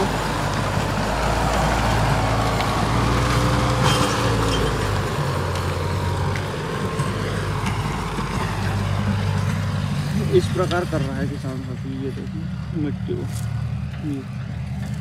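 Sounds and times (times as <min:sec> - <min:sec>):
tractor diesel engine labouring: 0:00.0 - 0:15.0.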